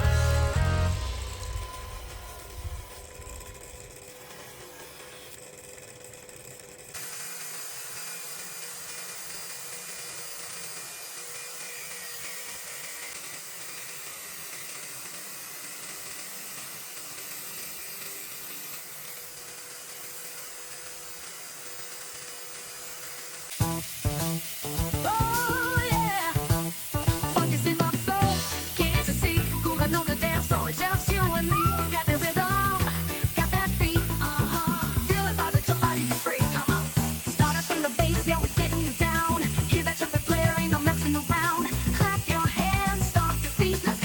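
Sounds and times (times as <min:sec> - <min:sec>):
rotary tool grinding: 0:00.0 - 0:44.0.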